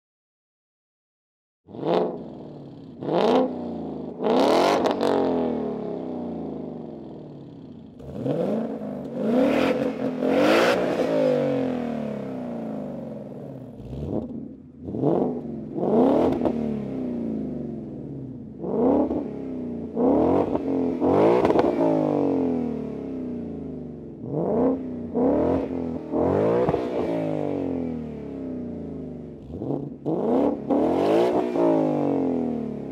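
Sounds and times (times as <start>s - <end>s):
car engine revving: 1.7s - 5.9s, 7.9s - 32.9s.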